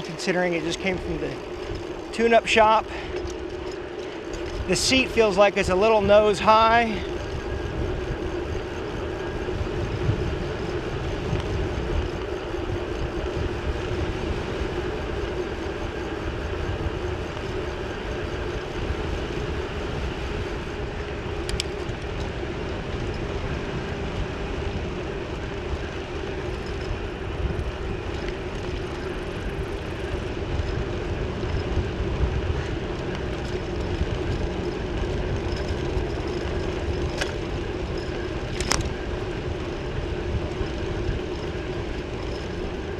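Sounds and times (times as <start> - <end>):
low road rumble: 0.0 - 42.9
steady hum: 0.0 - 42.9
wind rushing over microphone: 0.0 - 42.9.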